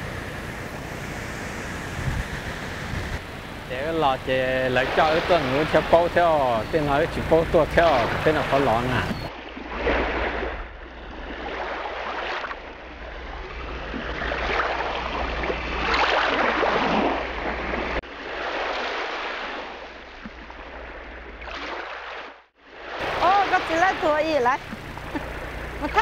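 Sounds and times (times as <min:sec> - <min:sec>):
steady low rumble: 0:00.0 - 0:18.0, 0:23.0 - 0:26.0
water noise on a lake: 0:00.0 - 0:26.0
wind: 0:00.0 - 0:26.0.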